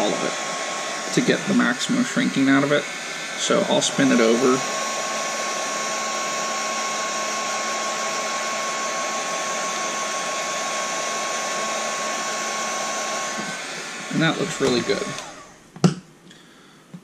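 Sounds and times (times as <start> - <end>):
heat gun blowing air: 0.0 - 15.6.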